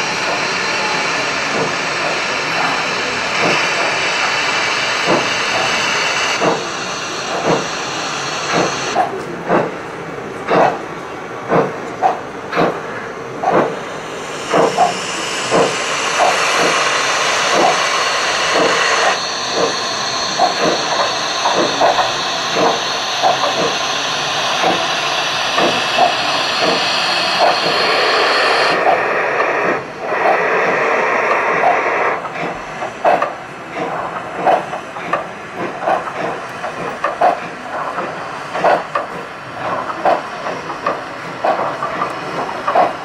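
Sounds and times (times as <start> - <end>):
hiss of steam: 0.0 - 9.7, 12.6 - 43.0
steam locomotive chuffs: 0.0 - 43.0.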